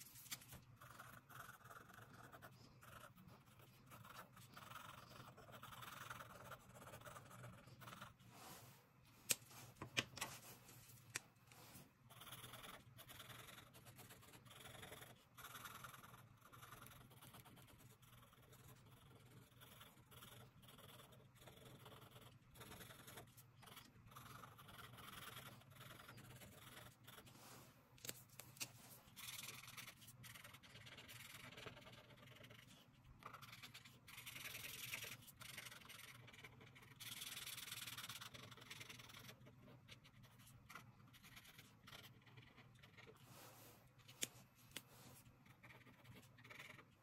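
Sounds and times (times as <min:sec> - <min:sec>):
marker scratching on paper: 0:00.0 - 0:47.0.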